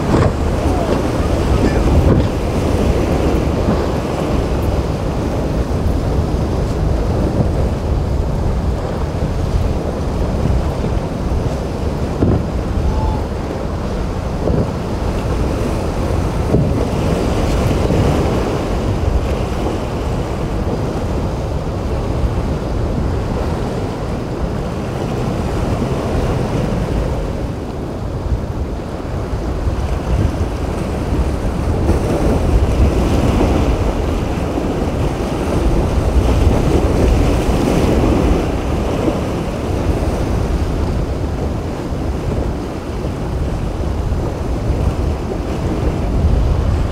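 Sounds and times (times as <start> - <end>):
surf rushing: 0.0 - 46.9
wind buffeting microphone: 0.0 - 46.9.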